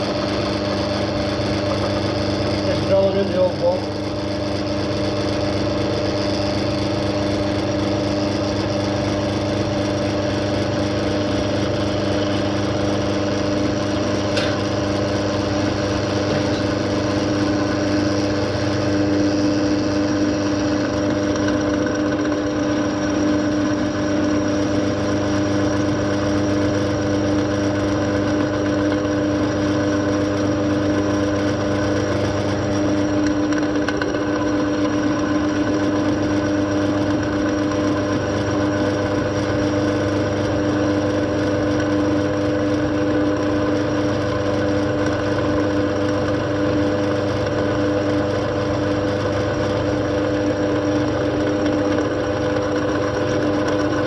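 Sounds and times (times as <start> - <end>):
machine motor humming: 0.0 - 54.0.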